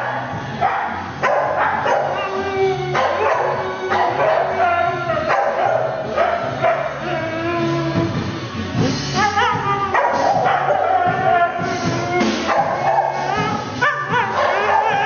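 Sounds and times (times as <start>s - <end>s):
dog howling: 0.0s - 8.3s, 9.0s - 15.0s
drum kit playing: 0.0s - 15.0s.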